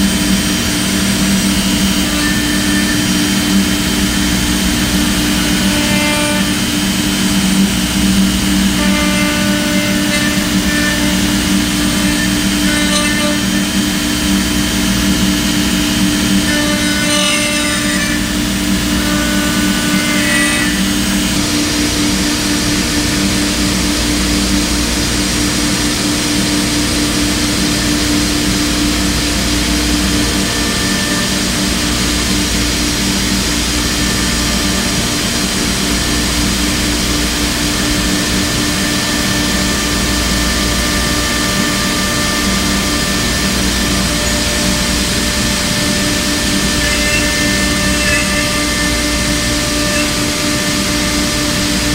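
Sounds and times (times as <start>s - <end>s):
router spindle humming: 0.0s - 51.9s.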